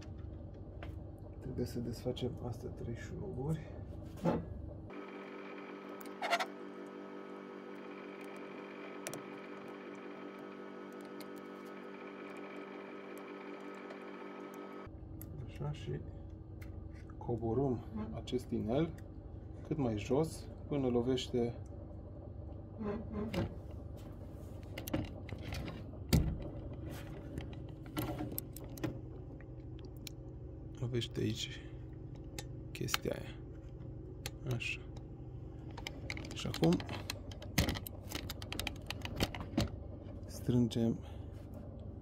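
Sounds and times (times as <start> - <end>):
steady tonal hum: 0.0 - 42.0.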